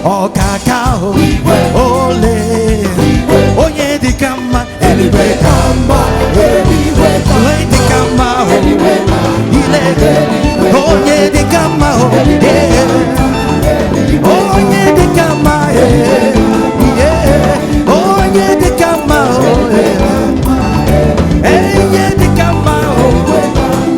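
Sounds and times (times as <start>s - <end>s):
gospel band playing: 0.0s - 23.9s
voices singing: 0.0s - 23.9s.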